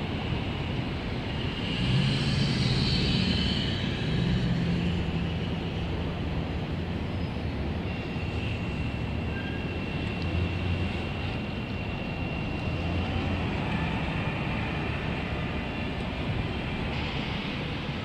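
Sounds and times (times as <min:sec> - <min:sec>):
bus pulling through: 0:00.0 - 0:18.0
traffic engines running: 0:00.0 - 0:18.0.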